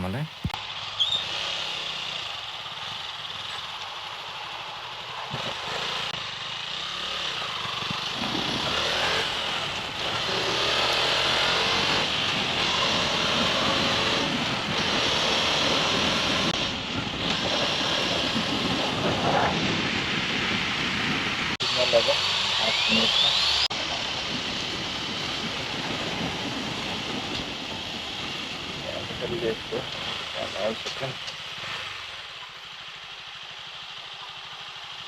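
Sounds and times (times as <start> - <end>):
motorcycle engine: 0.0 - 35.0
rushing wind: 4.0 - 32.4.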